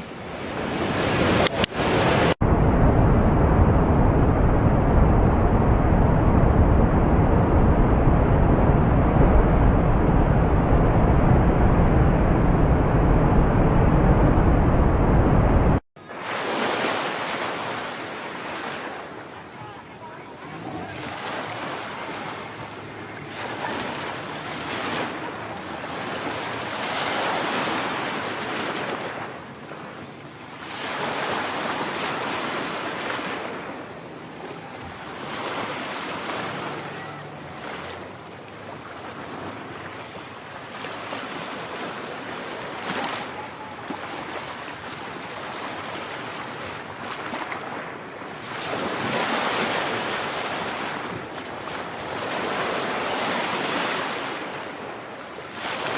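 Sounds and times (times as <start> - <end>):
ocean waves breaking: 0.0 - 55.9
wind on microphone: 0.0 - 55.9.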